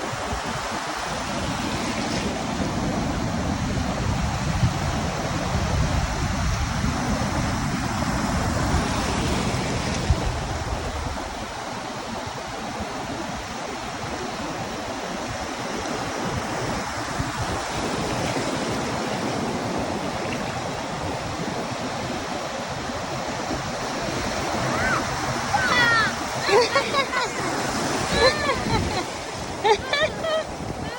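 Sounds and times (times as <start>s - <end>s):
ocean surf washing on beach: 0.0s - 30.9s
wind rumbling on microphone: 0.0s - 30.9s.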